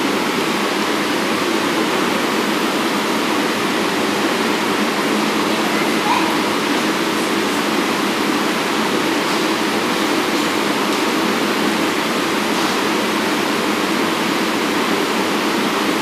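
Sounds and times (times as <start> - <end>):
air conditioning rushing noise: 0.0 - 16.0.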